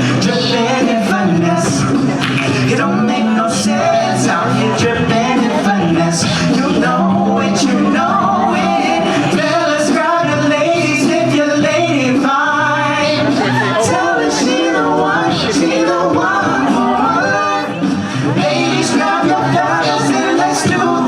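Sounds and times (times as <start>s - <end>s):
male group singing in harmony: 0.0s - 21.0s
sung bass line: 0.0s - 21.0s
vocal percussion: 0.0s - 21.0s.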